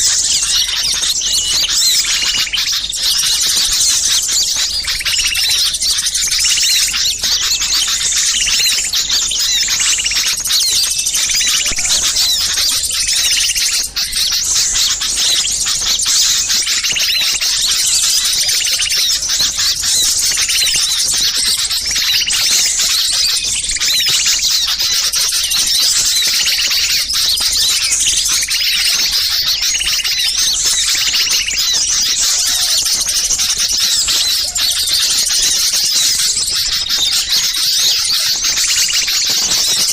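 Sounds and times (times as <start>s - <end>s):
lower bird call: 0.0s - 39.9s
songbirds chirping: 0.0s - 39.9s.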